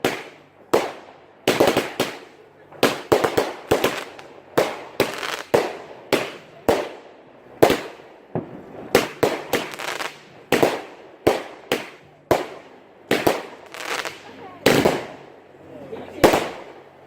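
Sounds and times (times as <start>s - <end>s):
fireworks banging: 0.0s - 15.4s, 16.0s - 17.0s.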